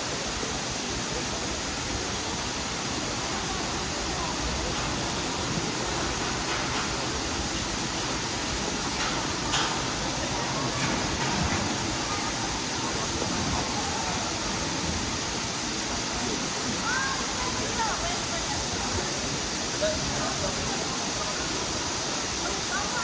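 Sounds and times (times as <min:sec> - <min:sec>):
faint voices of people: 0:00.0 - 0:23.0
waterfall rushing: 0:00.0 - 0:23.0.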